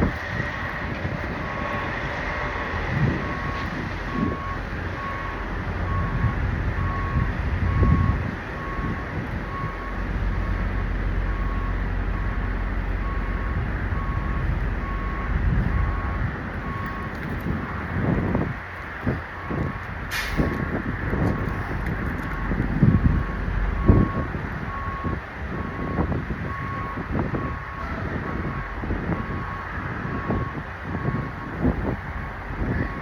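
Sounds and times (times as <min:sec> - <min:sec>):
truck engines idling: 0:00.0 - 0:33.0
truck reversing alarm beeping: 0:00.0 - 0:33.0.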